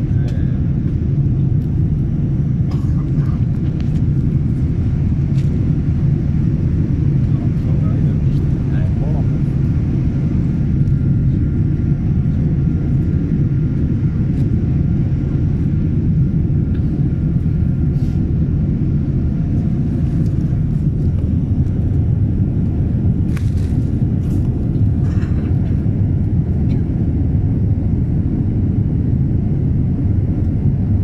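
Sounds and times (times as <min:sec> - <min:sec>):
jet airliner cabin rumble: 0:00.0 - 0:31.0.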